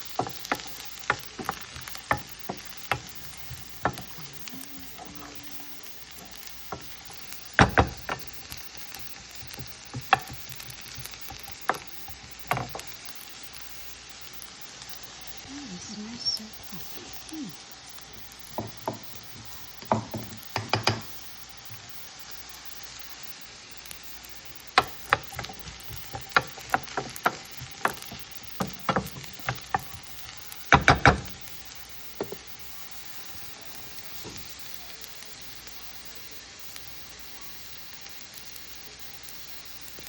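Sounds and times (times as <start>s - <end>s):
garlic and onion sizzling in oil: 0.0s - 40.0s.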